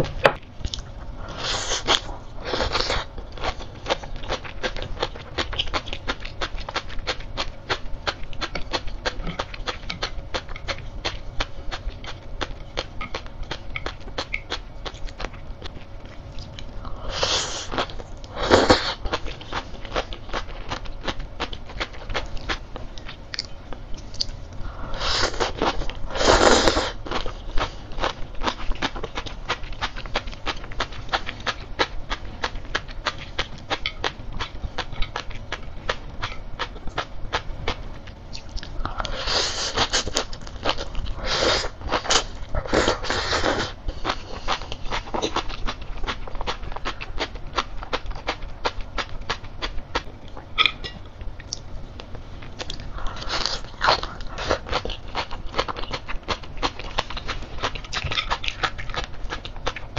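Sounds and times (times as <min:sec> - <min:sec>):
crunchy chewing and popping: 0:00.0 - 0:59.9.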